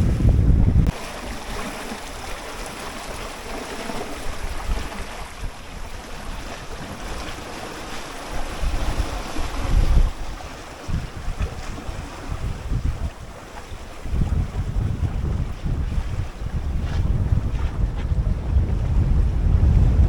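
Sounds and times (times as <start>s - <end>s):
wind buffeting microphone: 0.0s - 1.0s, 1.8s - 20.0s
water rushing along boat hull: 0.0s - 20.0s.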